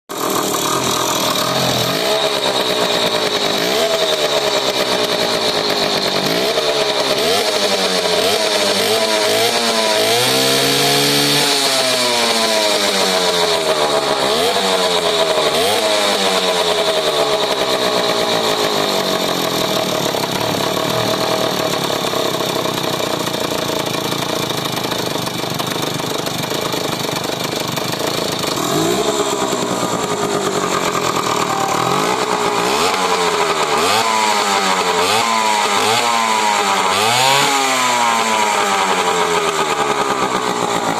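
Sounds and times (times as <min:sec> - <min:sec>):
moped engine revving: 0:00.1 - 0:40.9.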